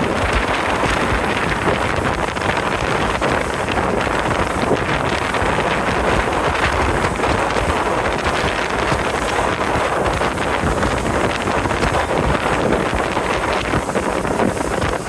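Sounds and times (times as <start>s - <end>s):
boat engine running: 0.0s - 15.0s
wind rushing over microphone: 0.0s - 15.0s.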